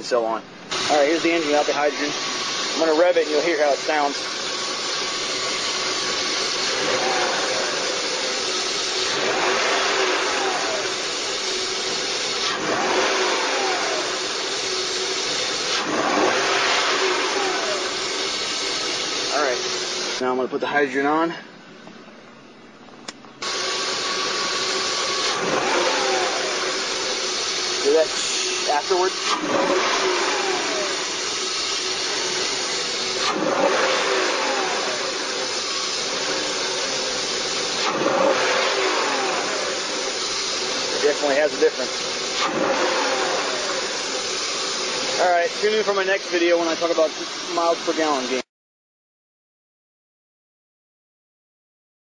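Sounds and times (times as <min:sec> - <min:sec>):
car engine idling and revving: 0:00.6 - 0:20.2, 0:23.1 - 0:48.4.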